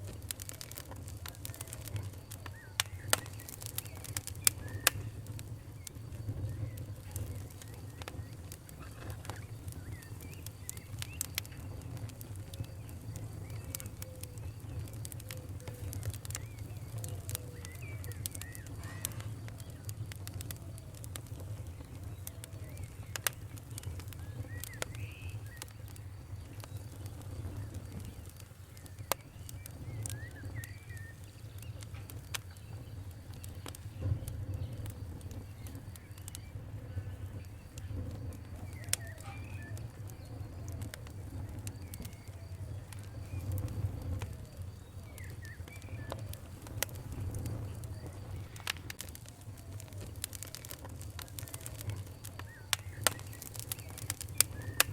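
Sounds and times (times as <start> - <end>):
campfire crackling and popping: 0.0 - 54.9
birds chirping: 0.3 - 54.9.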